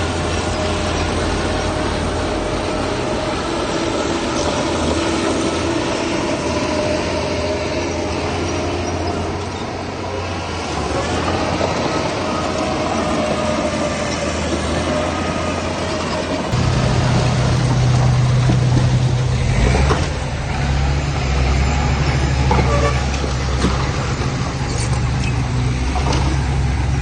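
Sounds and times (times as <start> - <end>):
low diesel engine drone: 0.0 - 27.0.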